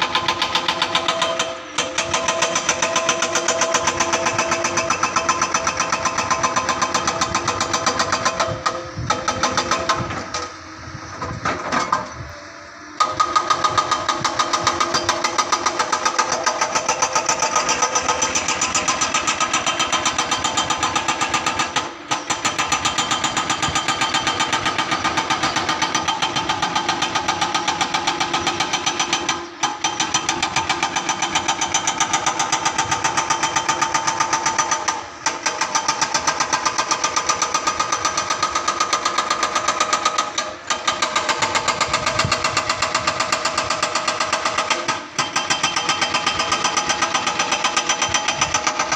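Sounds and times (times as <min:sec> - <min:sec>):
excavator engine pounding: 0:00.0 - 0:48.9.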